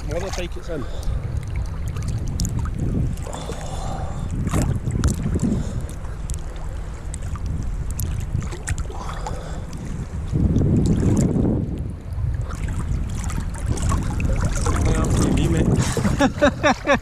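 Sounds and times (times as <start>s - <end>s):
moving water splashing: 0.0s - 17.0s
wind buffeting microphone: 0.0s - 17.0s.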